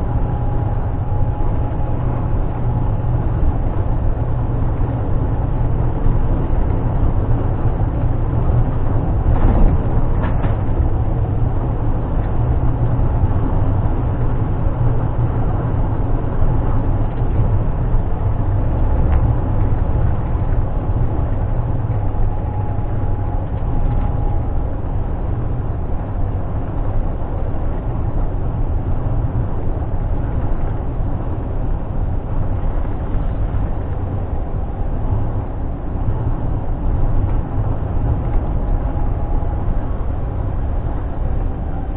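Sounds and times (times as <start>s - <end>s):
road noise: 0.0s - 41.9s
truck diesel engine drone: 0.0s - 41.9s.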